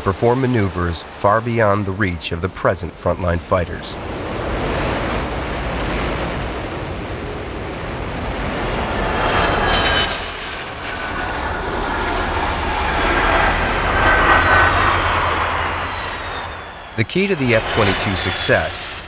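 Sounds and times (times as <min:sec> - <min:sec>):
jet engines rushing and whining: 0:00.0 - 0:19.0.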